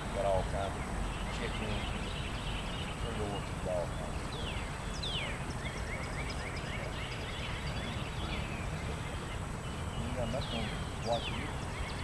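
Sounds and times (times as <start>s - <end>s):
birds calling: 0.0s - 12.0s
low outdoor rumble: 0.0s - 12.0s.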